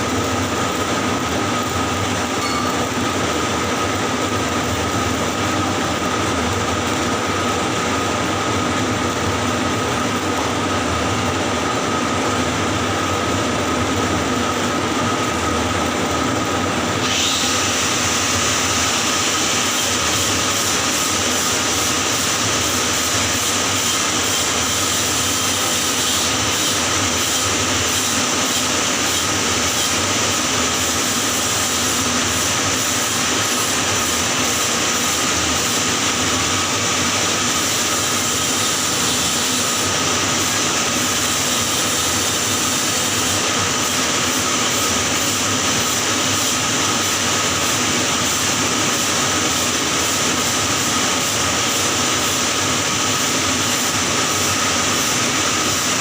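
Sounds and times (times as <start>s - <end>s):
welding arc hissing: 0.0s - 8.2s, 17.0s - 56.0s.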